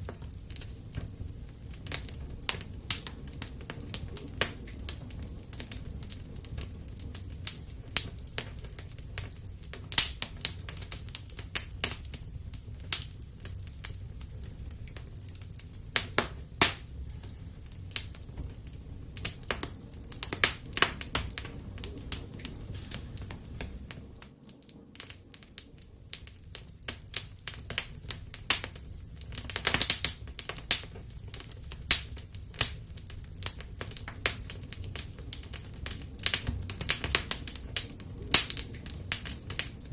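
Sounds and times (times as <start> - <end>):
fire popping and crackling: 0.0 - 39.9
flames rumbling: 0.0 - 39.9.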